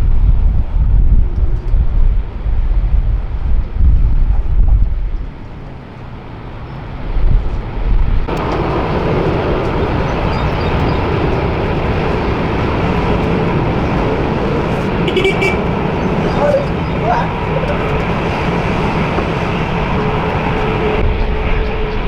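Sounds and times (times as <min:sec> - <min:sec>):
low rumble: 0:00.0 - 0:05.4, 0:07.0 - 0:22.0
jet engines roaring: 0:00.0 - 0:22.0
wind buffeting microphone: 0:00.0 - 0:22.0.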